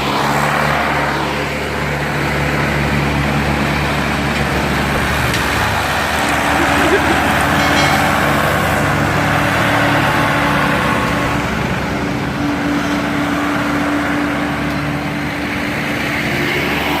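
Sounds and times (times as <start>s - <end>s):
diesel tractor engine running: 0.0s - 17.0s
road and rolling noise: 0.0s - 17.0s.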